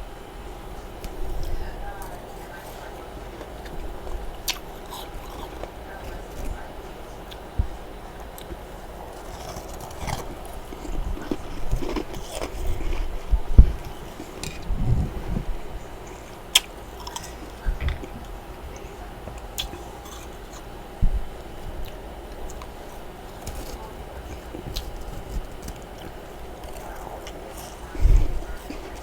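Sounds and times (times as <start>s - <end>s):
chewing and crunching frost: 0.5s - 29.0s.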